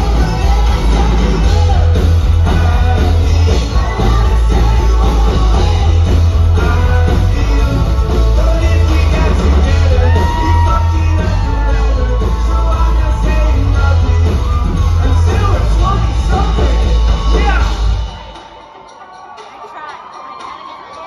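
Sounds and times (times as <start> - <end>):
booming bass: 0.0 - 18.1
live rock band playing: 0.0 - 21.0
person singing: 0.0 - 21.0.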